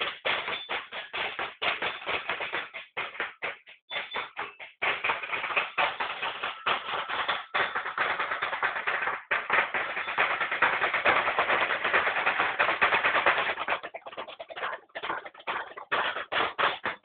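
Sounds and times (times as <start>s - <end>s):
marching drum rolls: 0.0s - 17.0s.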